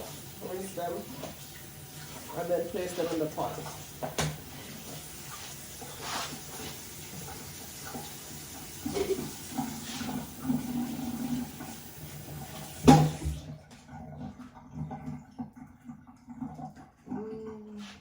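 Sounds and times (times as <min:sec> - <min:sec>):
kitchen tap running: 0:00.0 - 0:18.0.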